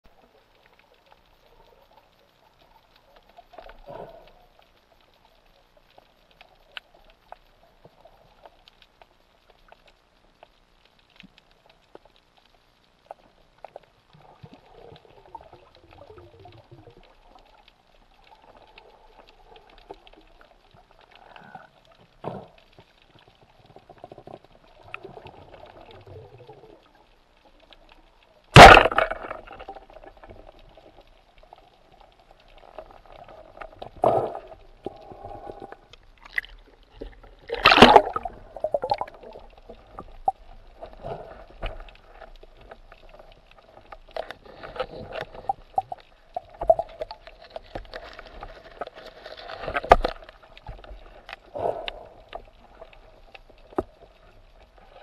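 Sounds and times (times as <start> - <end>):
underwater water noise: 0.0 - 55.0.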